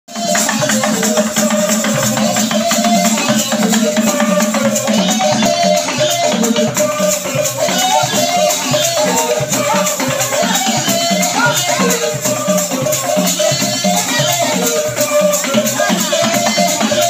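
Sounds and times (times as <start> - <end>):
dance music with rattle beat: 0.1 - 17.0.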